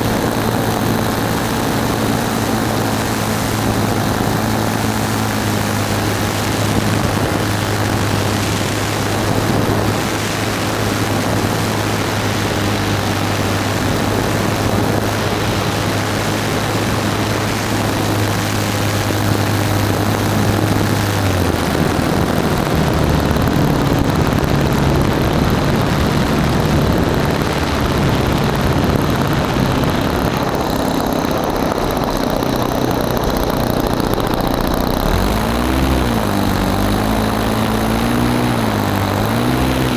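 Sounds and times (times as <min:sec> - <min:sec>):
model airplane engine droning: 0:00.0 - 0:39.9.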